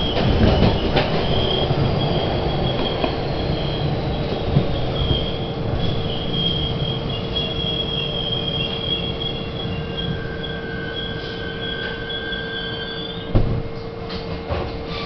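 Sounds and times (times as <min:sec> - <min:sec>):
train wheels squealing: 0:00.0 - 0:13.4
train running gear rumble: 0:00.0 - 0:15.0.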